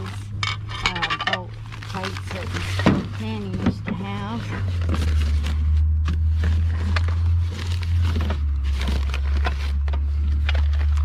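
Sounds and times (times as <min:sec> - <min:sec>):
paper crinkling: 0:01.4 - 0:11.0.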